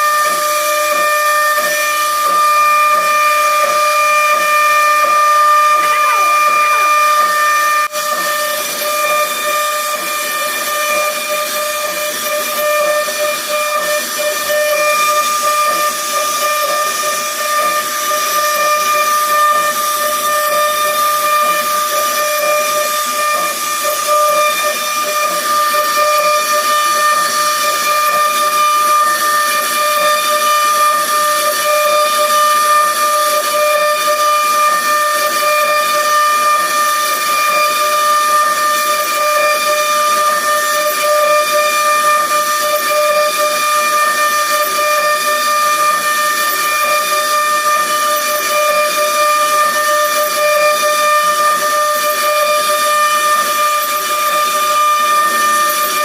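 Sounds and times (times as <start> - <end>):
router spindle high whine: 0.0 - 56.0.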